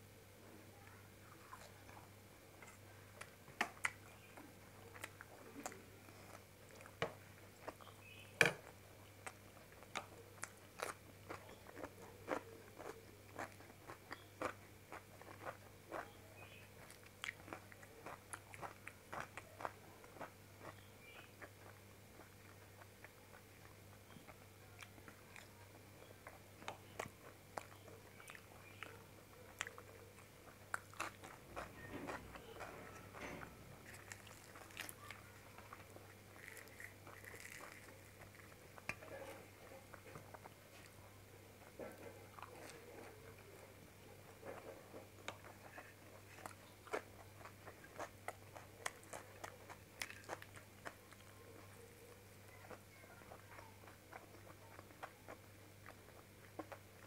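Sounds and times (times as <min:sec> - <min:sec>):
low electrical hum: 0:00.0 - 0:57.0
chewing and biting: 0:08.6 - 0:57.0.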